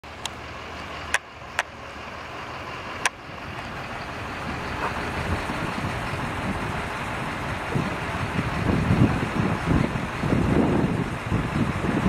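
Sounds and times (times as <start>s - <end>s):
car engine idling: 0.0s - 12.0s
steady wash of noise: 0.1s - 12.0s.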